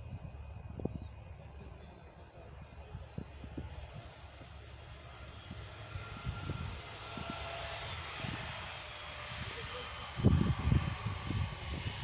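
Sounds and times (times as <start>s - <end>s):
distant jet engines rumbling: 0.0s - 12.0s
wind buffeting microphone: 0.0s - 12.0s.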